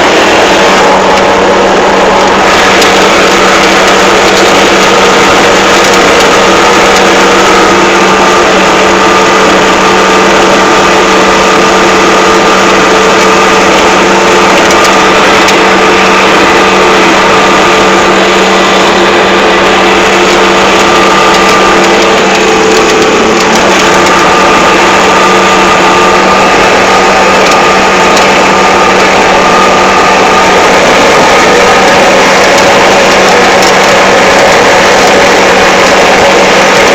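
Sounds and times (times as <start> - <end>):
excavator diesel engine drone: 0.0 - 36.9.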